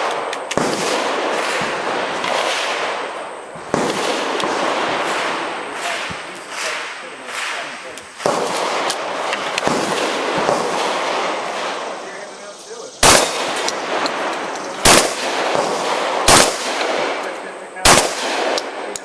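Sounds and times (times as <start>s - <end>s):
shotgun shots: 0.0s - 12.3s, 13.0s - 19.0s.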